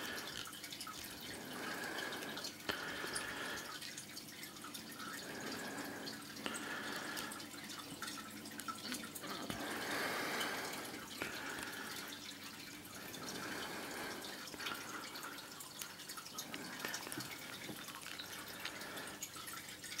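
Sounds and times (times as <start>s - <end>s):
water trickling and dripping: 0.0s - 20.0s.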